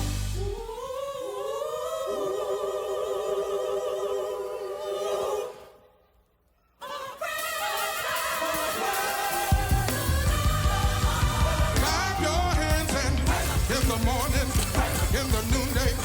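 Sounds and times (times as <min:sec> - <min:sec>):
choir singing: 0:00.0 - 0:06.2, 0:06.8 - 0:16.0.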